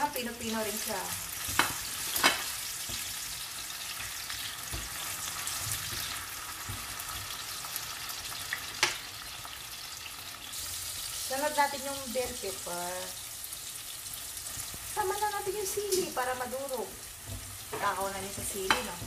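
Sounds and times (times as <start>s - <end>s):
food sizzling in pan: 0.0s - 19.0s.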